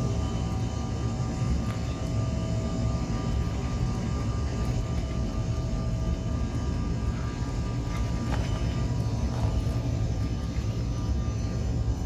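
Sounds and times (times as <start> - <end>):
jet engines at takeoff power: 0.0 - 12.0.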